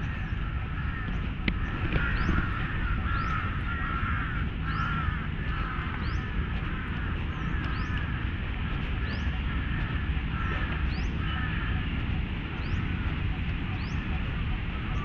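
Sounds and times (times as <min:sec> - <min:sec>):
lower bird call: 0:00.0 - 0:15.0
steady low rumble: 0:00.0 - 0:15.0.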